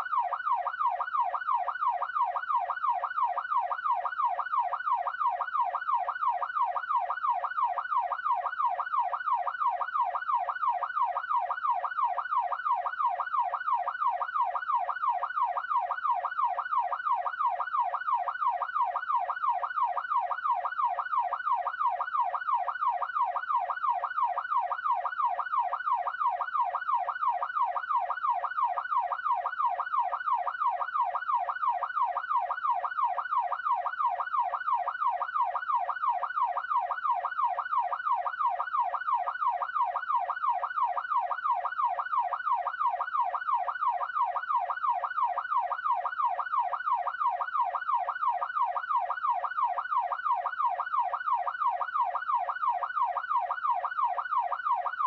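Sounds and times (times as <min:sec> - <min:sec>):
police siren yelping: 0:00.0 - 0:55.0.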